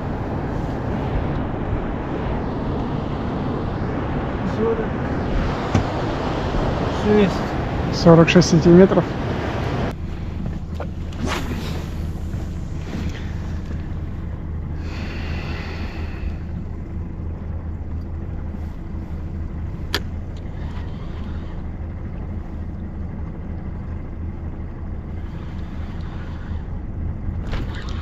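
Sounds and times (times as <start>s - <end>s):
boat motor rumbling: 0.0s - 28.0s.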